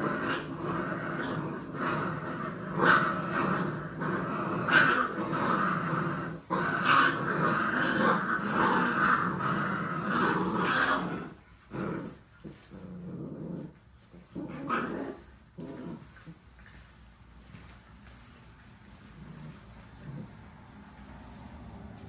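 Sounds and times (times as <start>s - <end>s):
puppies growling: 0.0s - 17.0s, 18.9s - 21.4s.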